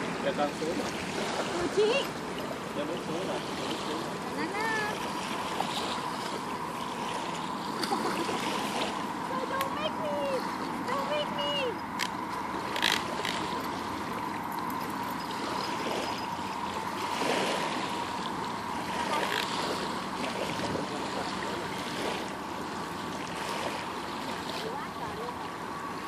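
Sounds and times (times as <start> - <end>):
faint steady hum: 0.0 - 26.0
small waves lapping on shore: 0.0 - 26.0
steady rushing outdoor noise: 0.0 - 26.0.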